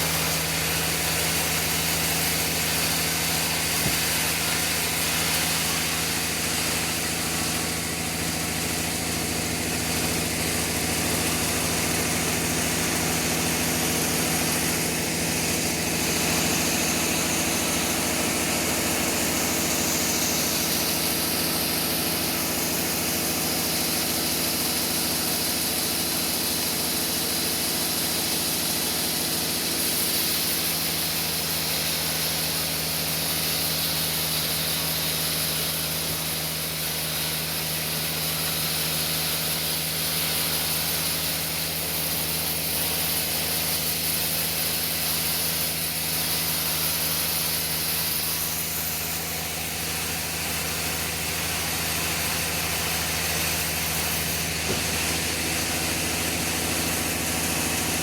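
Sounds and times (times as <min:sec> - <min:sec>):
sawmill sawing log: 0:00.0 - 0:58.0.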